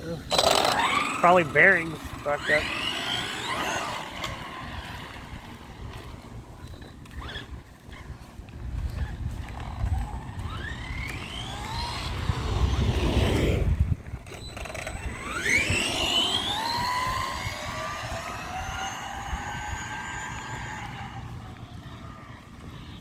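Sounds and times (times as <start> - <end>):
electric motor whining: 0.0 - 23.0
tyres rumbling on pavement: 0.0 - 23.0.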